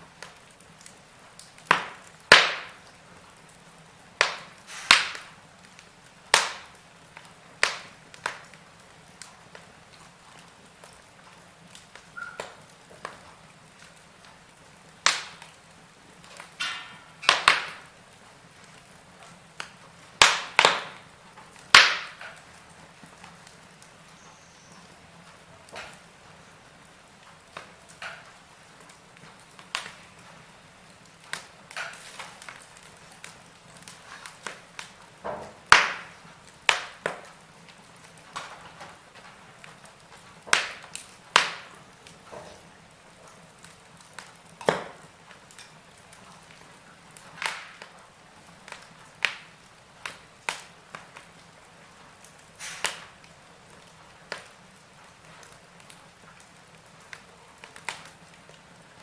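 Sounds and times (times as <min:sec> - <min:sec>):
soft steady hiss: 0:00.0 - 0:59.0
wood fire crackling and popping: 0:00.0 - 0:59.0.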